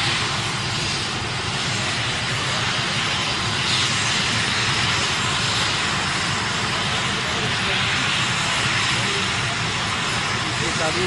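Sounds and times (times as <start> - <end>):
helicopter turbine and rotor noise: 0.0 - 11.0.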